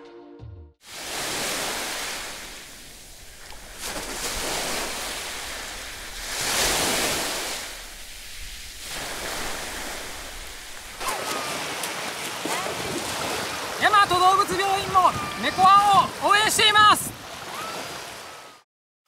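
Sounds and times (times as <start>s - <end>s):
waves washing onto shore: 0.8s - 18.6s.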